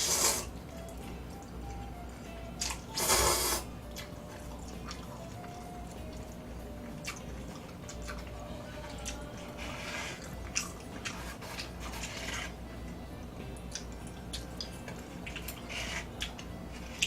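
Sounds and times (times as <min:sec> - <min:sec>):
low steady hum: 0:00.0 - 0:17.0
chewing with wet clicks: 0:00.6 - 0:02.9, 0:03.8 - 0:09.5, 0:10.2 - 0:11.8, 0:12.8 - 0:17.0.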